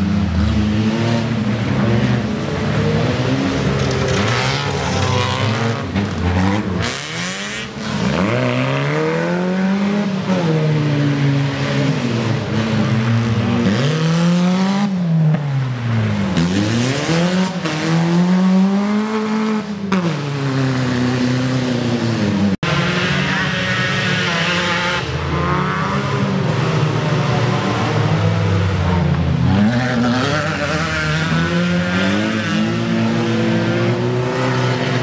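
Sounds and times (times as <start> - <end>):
race car engine revving: 0.0 - 35.0.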